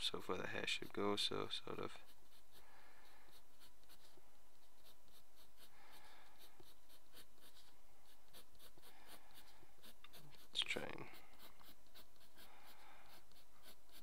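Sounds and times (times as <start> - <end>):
pencil scratching on paper: 0.0 - 1.3, 1.9 - 2.6, 3.3 - 14.0.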